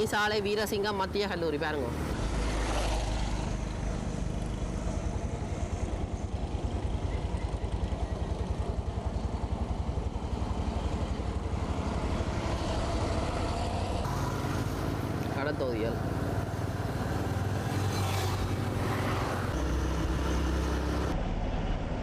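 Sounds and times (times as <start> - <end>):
motorcycle engine running: 2.2 - 21.2.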